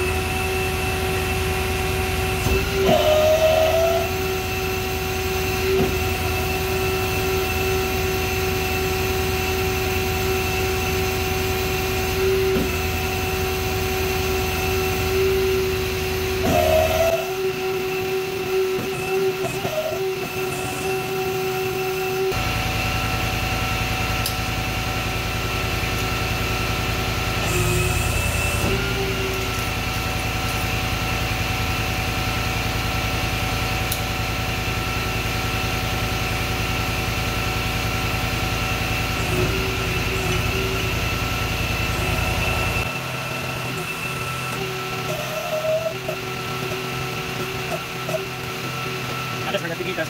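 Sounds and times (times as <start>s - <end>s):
electric hoist humming and whining: 0.0s - 50.0s.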